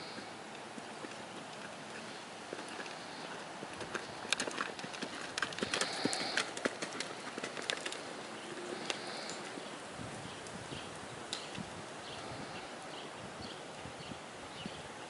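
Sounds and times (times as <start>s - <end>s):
horse hooves on sand: 0.0s - 14.8s.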